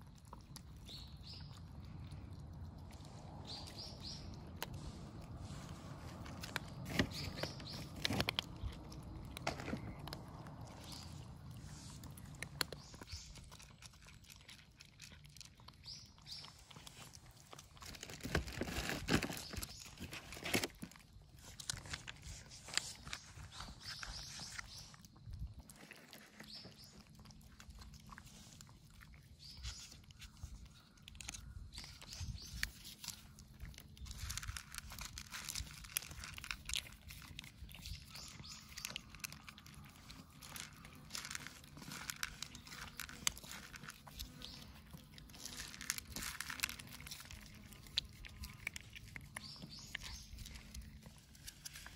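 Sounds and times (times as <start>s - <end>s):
cats crunching dry kibble: 0.0s - 51.9s.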